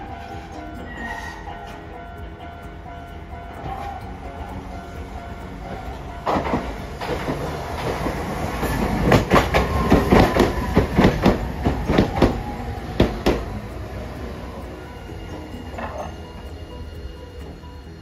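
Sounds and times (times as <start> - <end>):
tram rumble: 0.0 - 18.0
tram wheels clacking over rail joints: 0.0 - 18.0.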